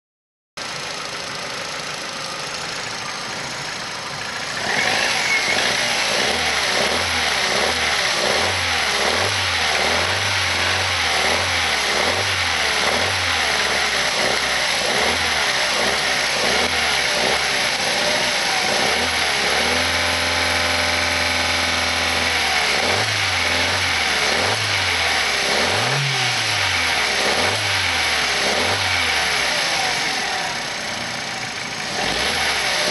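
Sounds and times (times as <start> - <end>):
petrol engine revving: 0.7 - 32.9.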